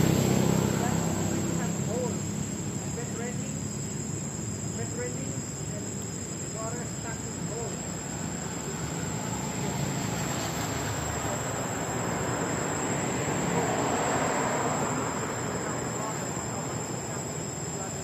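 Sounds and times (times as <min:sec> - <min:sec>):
broad rushing noise: 0:00.0 - 0:18.0
high-pitched insect drone: 0:00.0 - 0:18.0.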